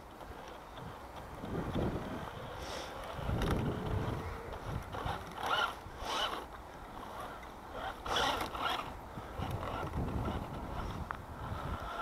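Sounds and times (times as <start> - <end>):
toy truck electric motor whirring: 0.2 - 12.0.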